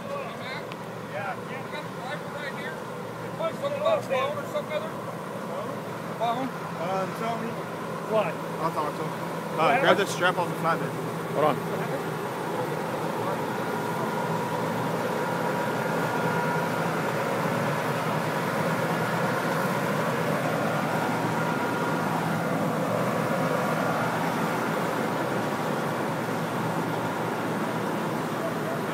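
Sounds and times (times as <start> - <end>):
truck diesel engine idling: 0.0 - 28.9.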